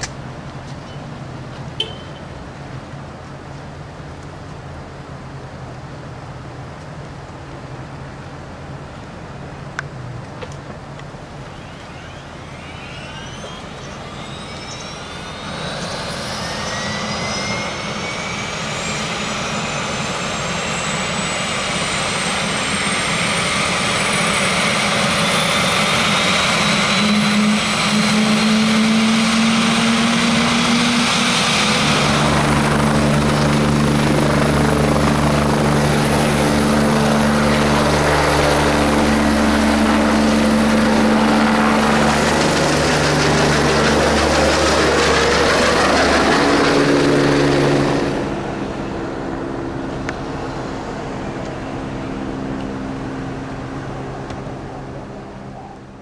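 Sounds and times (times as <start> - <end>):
helicopter rotor drone: 0.0 - 56.0
helicopter turbine whine: 7.4 - 56.0.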